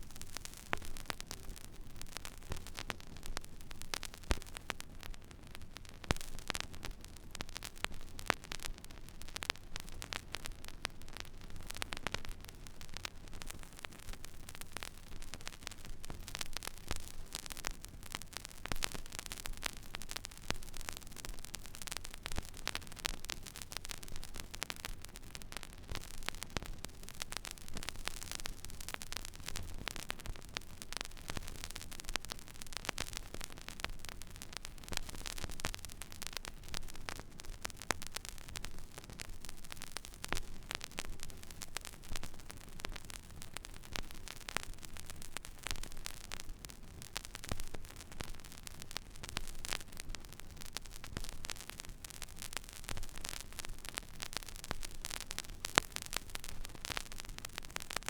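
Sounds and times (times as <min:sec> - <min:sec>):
vinyl surface hiss and crackle: 0:00.0 - 0:58.0.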